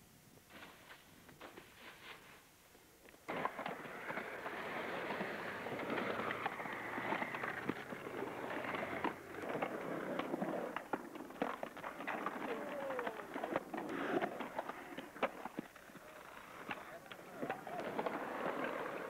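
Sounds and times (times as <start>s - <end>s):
skateboard wheels rolling on concrete: 0.3s - 19.0s
skateboards clacking: 3.2s - 19.0s.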